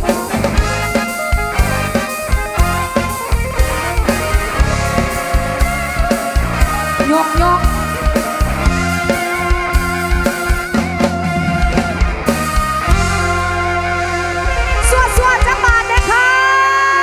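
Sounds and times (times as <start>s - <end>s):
drum kit beat: 0.0s - 16.7s
bass: 0.0s - 17.0s
guitar: 0.0s - 17.0s.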